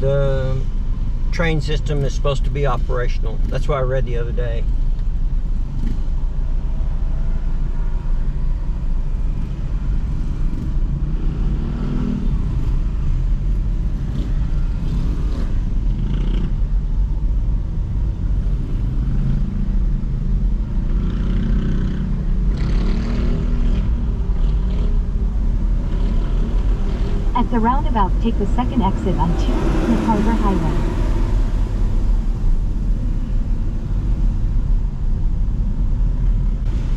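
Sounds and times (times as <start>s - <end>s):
car engine and tyres rumbling: 0.0s - 36.9s.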